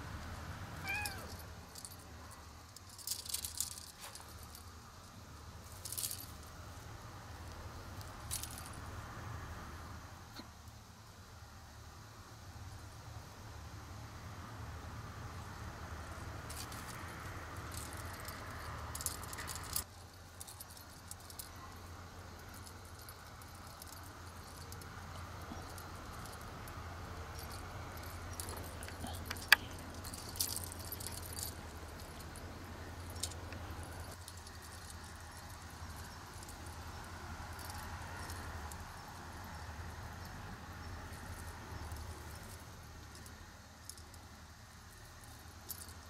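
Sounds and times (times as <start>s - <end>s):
steady low hum: 0.0s - 46.0s
toy jingling and clicking: 0.8s - 6.6s, 7.4s - 8.9s, 16.1s - 46.0s.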